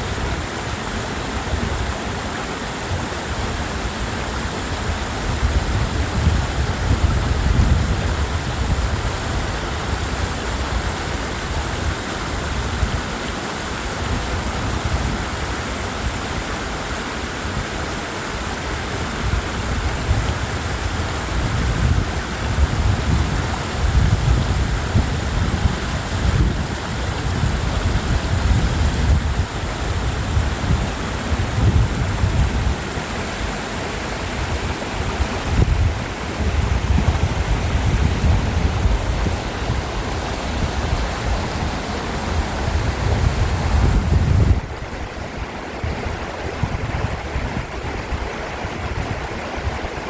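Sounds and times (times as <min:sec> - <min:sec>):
stream rushing over rocks: 0:00.0 - 0:50.0
wind gusting against microphone: 0:00.0 - 0:50.0.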